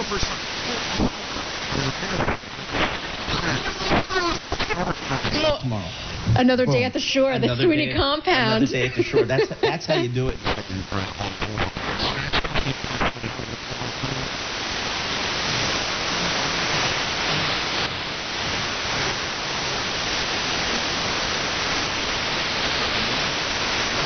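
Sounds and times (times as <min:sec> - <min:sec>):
radio static hiss: 0:00.0 - 0:24.0
static crackles: 0:00.0 - 0:24.0.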